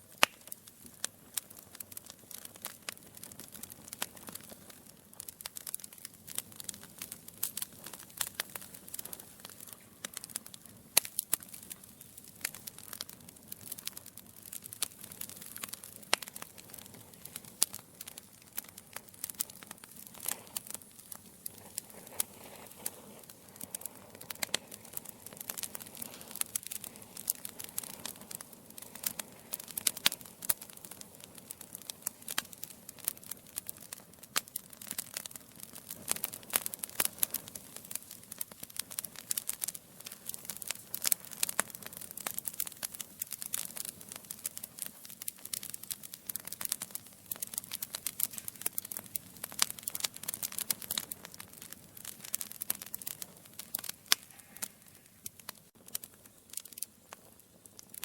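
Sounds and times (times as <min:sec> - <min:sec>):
soft rustle of flame: 0:00.0 - 0:58.0
wood logs crackling and popping: 0:00.0 - 0:58.0.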